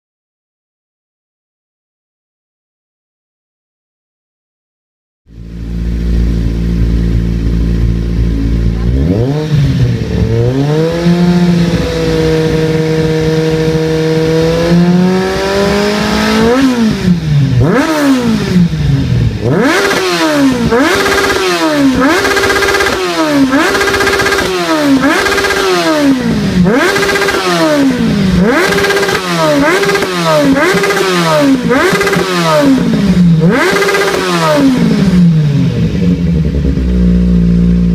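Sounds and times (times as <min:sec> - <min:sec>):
motorcycle engine idling and revving: 0:05.3 - 0:37.9.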